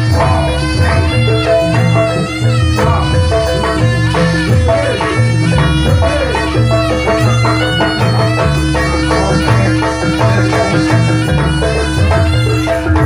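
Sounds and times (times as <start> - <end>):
drums and gongs: 0.0 - 13.0
shrill reed trumpet melody: 0.0 - 13.0.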